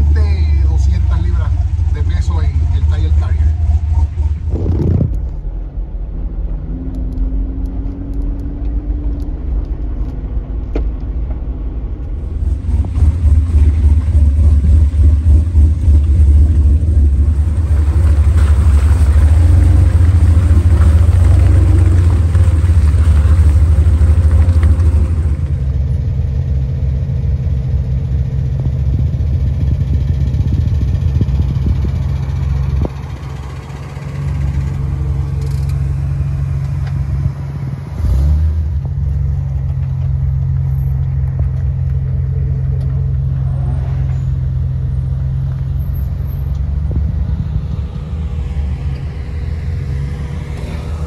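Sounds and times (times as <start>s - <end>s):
engine low rumble: 0.0s - 51.0s.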